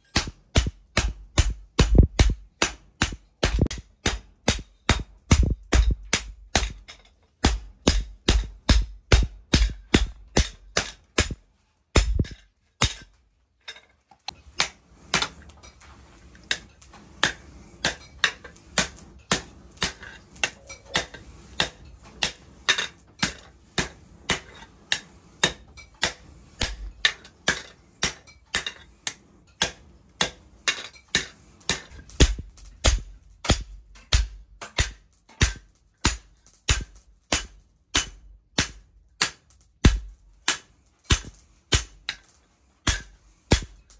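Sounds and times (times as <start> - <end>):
hammer striking hot steel on anvil: 0.0 - 13.2, 14.3 - 43.9.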